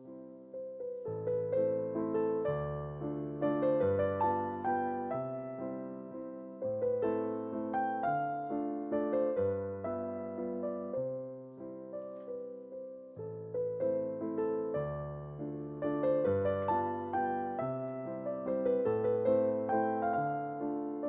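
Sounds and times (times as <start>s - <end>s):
light piano piece: 0.0s - 21.0s.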